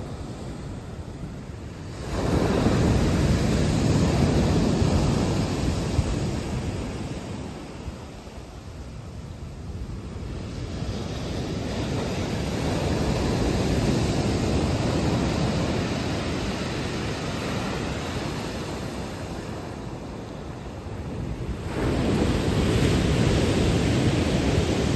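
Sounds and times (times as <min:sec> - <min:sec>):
ocean wave washing: 0:00.0 - 0:24.9.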